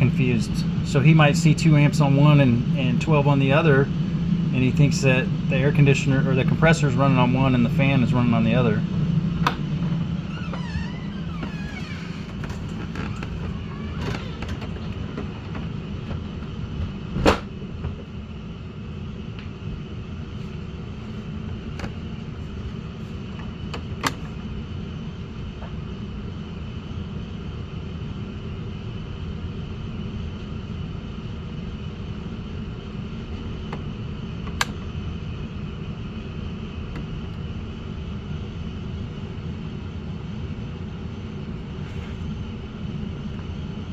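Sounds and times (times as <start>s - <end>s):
air conditioner fan hum: 0.0s - 43.9s.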